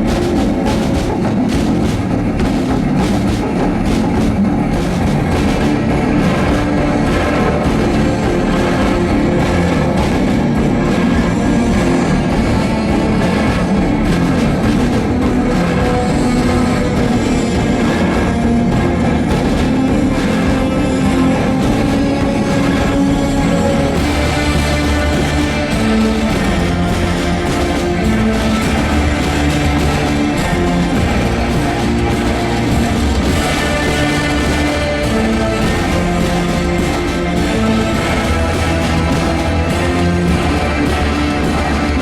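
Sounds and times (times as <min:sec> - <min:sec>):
rhythmic drumming: 0:00.0 - 0:42.0
sustained instrumental tones: 0:00.0 - 0:42.0.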